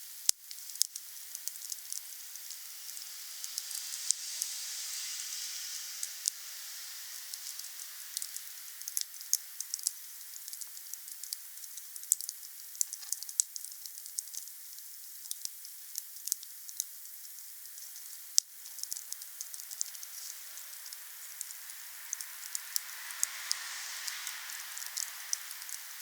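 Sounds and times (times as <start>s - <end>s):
campfire crackling and popping: 0.2s - 4.2s, 7.4s - 26.0s.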